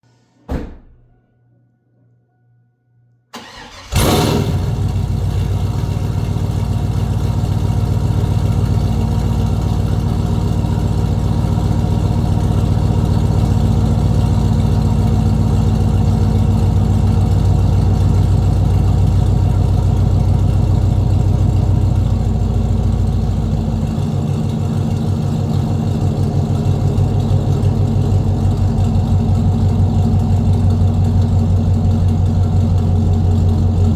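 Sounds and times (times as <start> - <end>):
car engine idling: 3.4 - 33.9.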